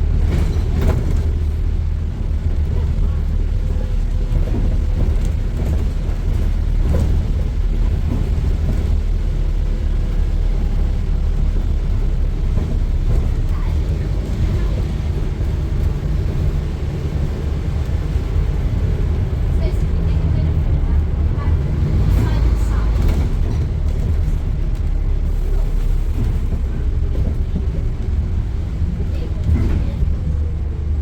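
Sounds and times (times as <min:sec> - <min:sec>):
bus diesel engine drone: 0:00.0 - 0:31.0
road noise: 0:00.0 - 0:31.0.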